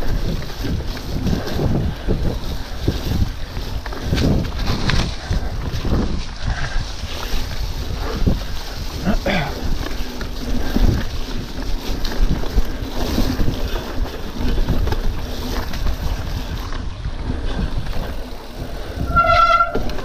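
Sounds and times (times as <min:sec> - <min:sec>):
mountain bike rattling and knocking: 0:00.0 - 0:20.0
wind buffeting microphone: 0:00.0 - 0:20.0.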